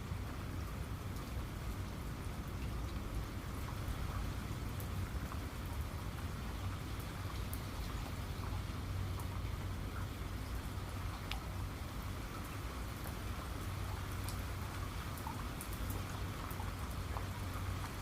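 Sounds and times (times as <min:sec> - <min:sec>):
raindrops ticking on a surface: 0:00.0 - 0:18.0
steady rain falling: 0:00.0 - 0:18.0.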